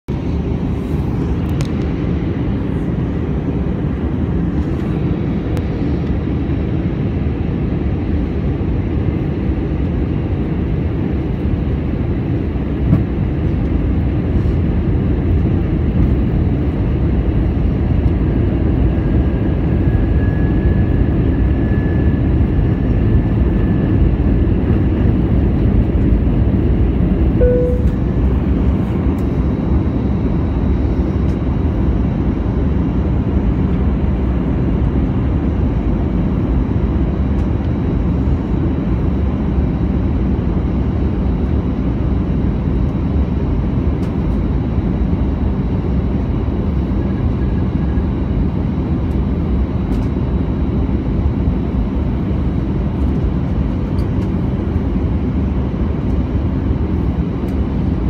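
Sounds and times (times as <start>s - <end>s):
airplane cabin engine rumble: 0.1s - 58.0s.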